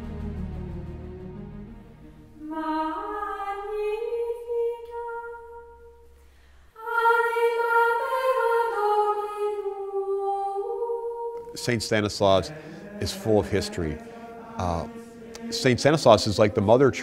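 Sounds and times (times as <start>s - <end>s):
unaccompanied choir singing: 1.9s - 6.0s, 6.8s - 17.0s.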